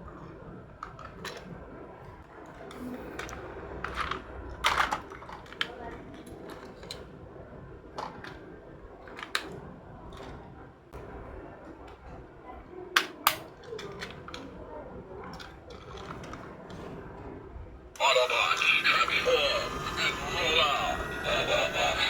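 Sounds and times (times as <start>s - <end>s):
low steady background hum: 0.0s - 22.0s.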